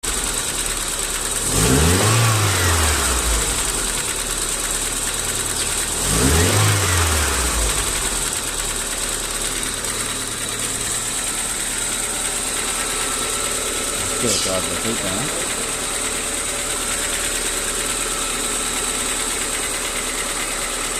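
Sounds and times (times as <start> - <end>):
car engine idling and revving: 0.0 - 20.9
engine knocking: 0.0 - 20.9.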